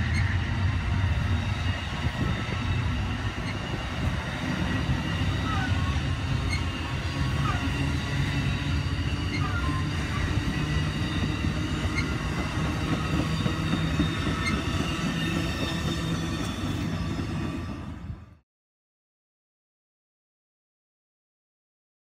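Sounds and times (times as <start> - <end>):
high ringing from train wheels: 0.0 - 18.2
train wheels rumbling on rail: 0.0 - 18.4.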